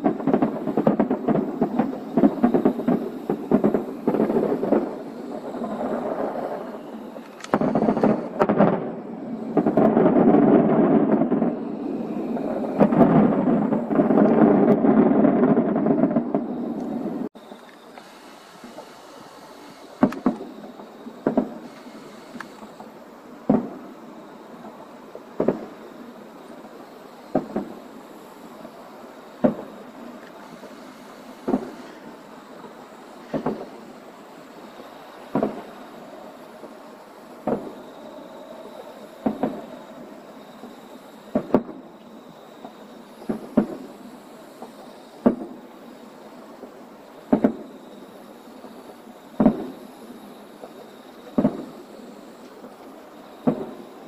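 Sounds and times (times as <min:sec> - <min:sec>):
firework shells booming: 0:00.0 - 0:54.0.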